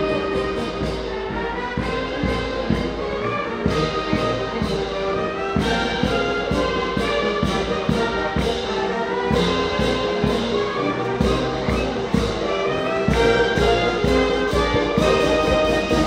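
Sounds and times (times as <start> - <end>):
brass sustained notes: 0.0 - 16.0
steady drum beat: 0.0 - 16.0.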